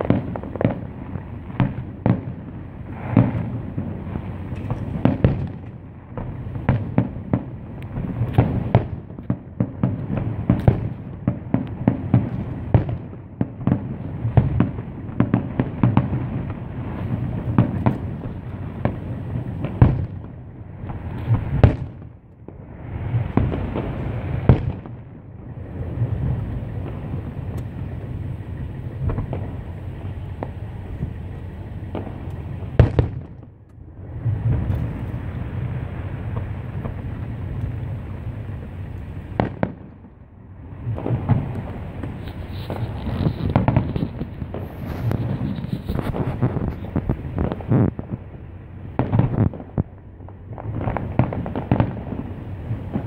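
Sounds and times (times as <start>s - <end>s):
fireworks booming: 0.0s - 53.0s
steady rumbling noise: 0.0s - 53.0s.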